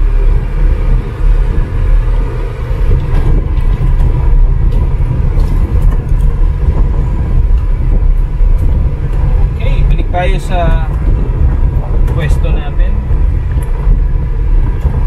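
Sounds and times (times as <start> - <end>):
engine and tyres rumbling on gravel: 0.0 - 15.0.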